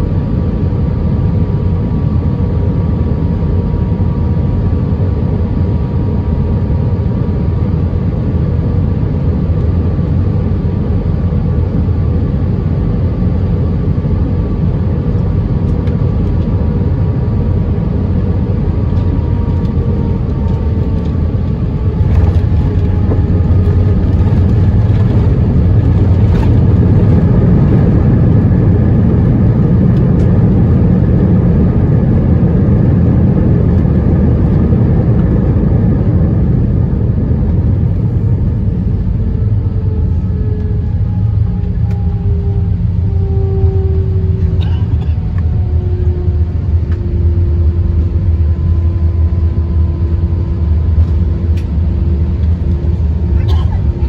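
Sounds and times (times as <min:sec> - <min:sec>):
airplane cabin rumble: 0:00.0 - 0:54.0
faint engine tones: 0:00.0 - 0:54.0.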